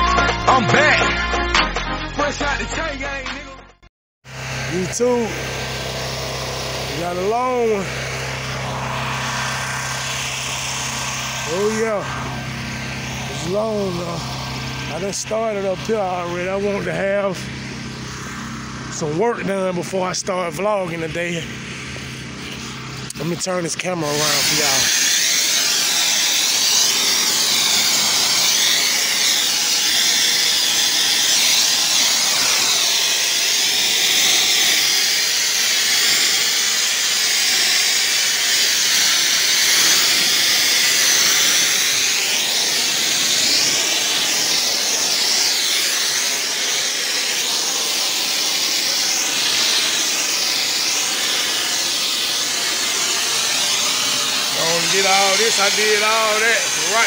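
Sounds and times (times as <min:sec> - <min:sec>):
high-pressure water spray hissing: 0:04.3 - 0:57.0.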